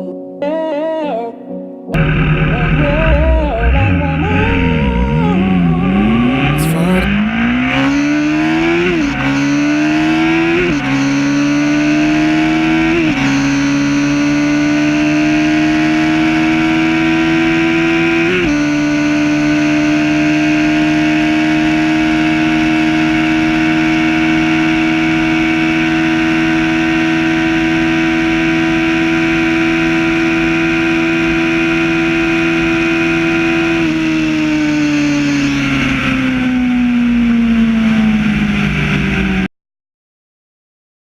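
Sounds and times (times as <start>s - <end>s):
motorcycle engine revving high: 2.0s - 39.5s.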